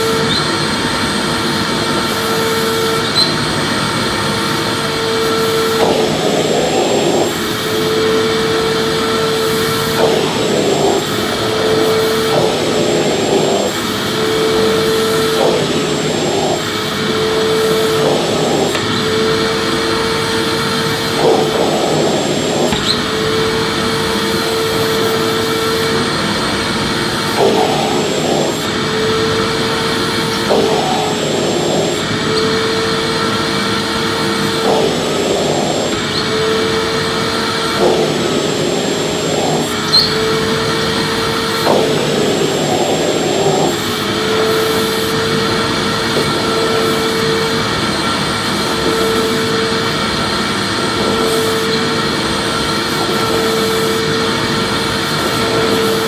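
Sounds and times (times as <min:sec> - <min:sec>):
vacuum cleaner motor whirring: 0:00.0 - 0:56.0.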